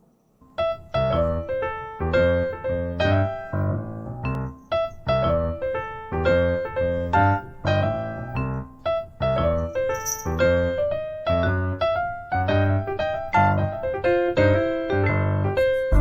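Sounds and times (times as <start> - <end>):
piano music: 0.4 - 16.0.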